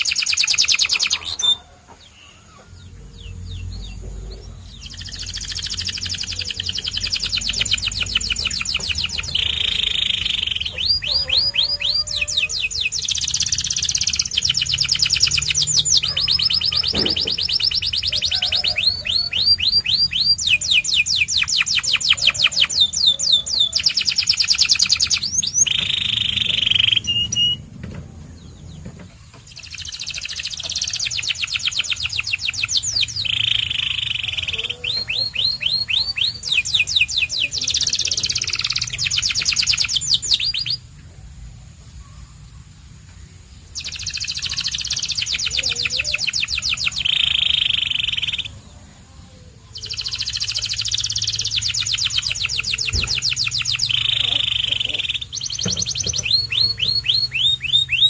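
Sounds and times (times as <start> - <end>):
canary singing rapid trills: 0.0 - 27.7, 28.4 - 40.9, 43.4 - 58.0.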